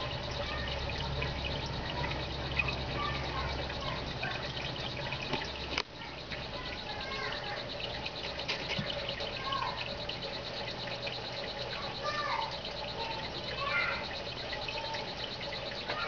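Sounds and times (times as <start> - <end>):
aquarium water trickling: 0.0 - 16.0.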